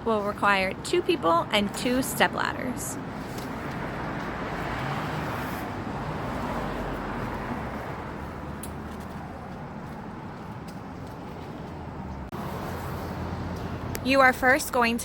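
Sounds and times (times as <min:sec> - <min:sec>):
passing road vehicle: 0:00.0 - 0:15.0.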